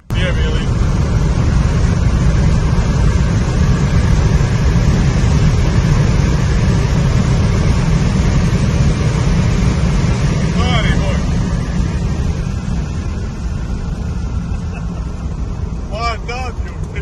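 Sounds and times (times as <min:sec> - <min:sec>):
wind and tyre rumble in car: 0:00.0 - 0:17.0.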